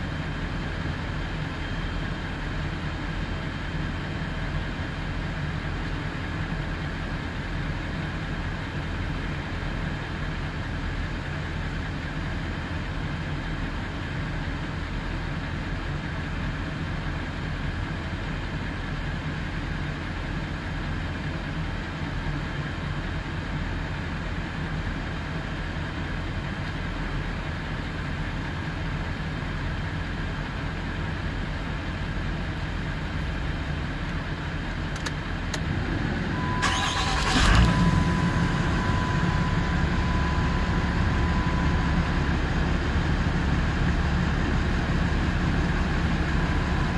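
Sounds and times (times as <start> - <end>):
fire truck engine running: 0.0 - 46.9.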